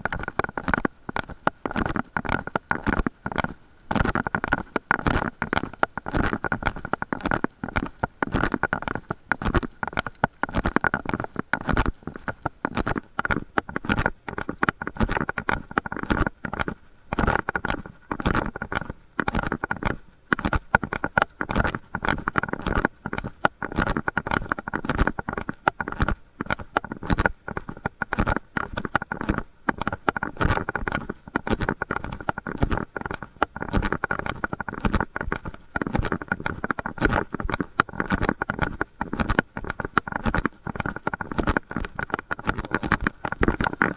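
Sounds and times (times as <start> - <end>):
microphone crackling and rumbling: 0.0 - 43.9.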